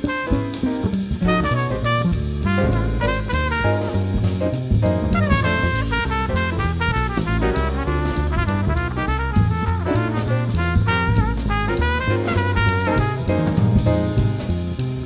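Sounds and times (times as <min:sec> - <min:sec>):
trumpet melody: 0:00.0 - 0:14.6
drum kit with cymbals: 0:00.0 - 0:15.0
piano: 0:00.0 - 0:15.0
upright bass: 0:00.0 - 0:15.0.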